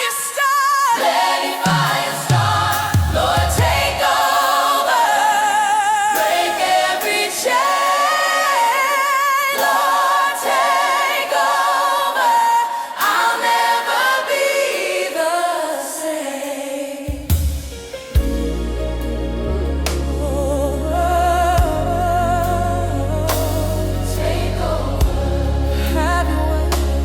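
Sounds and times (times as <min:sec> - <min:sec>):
a cappella gospel choir singing: 0:00.0 - 0:27.0.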